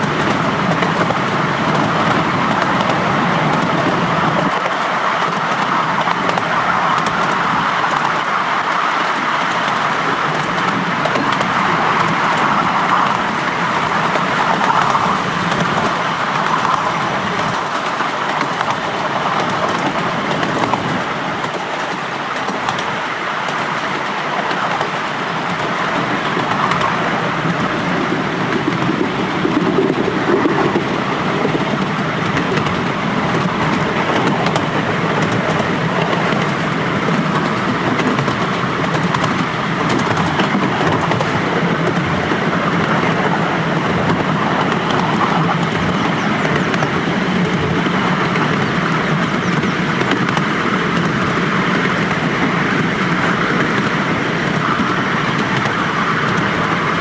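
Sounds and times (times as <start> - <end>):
train carriages rolling on track: 0.0 - 57.0.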